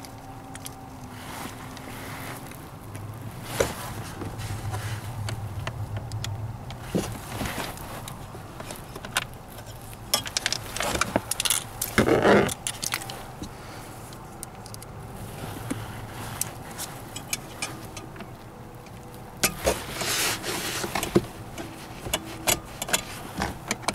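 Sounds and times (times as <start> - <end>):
scraping rustle: 0.0 - 14.4, 15.0 - 23.9.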